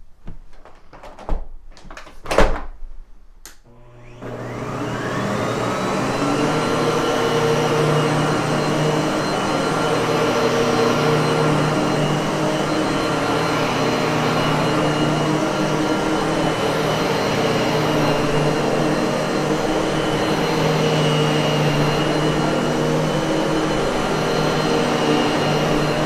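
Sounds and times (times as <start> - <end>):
vacuum cleaner motor whining: 3.7 - 26.0.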